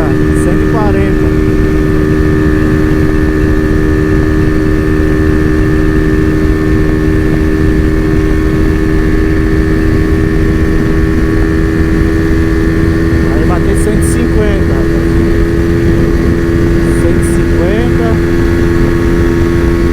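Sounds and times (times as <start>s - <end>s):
motorcycle engine at high revs: 0.0s - 19.9s
wind rushing over microphone: 0.0s - 19.9s.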